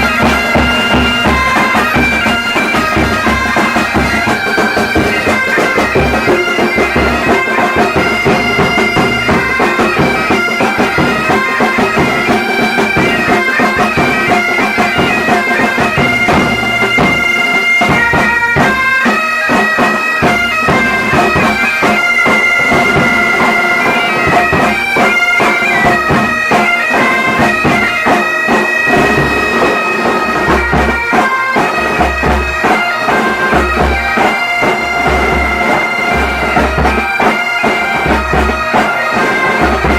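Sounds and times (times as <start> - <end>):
bagpipes playing folk tune: 0.0 - 39.9.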